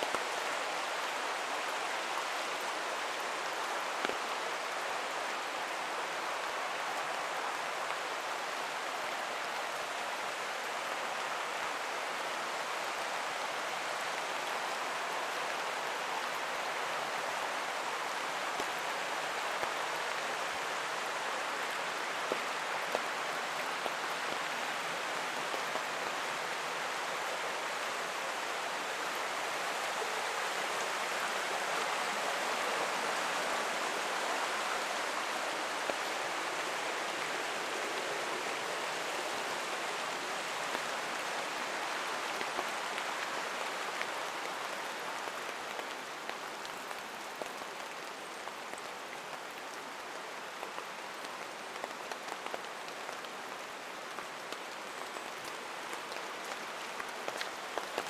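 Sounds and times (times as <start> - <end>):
creek rushing: 0.0 - 58.0
falling rain: 0.0 - 58.0.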